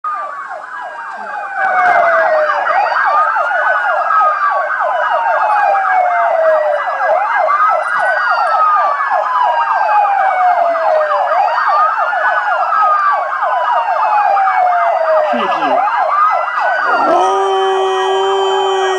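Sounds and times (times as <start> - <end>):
siren slow wail: 0.1 - 18.9
siren rapid yelp: 0.2 - 18.9.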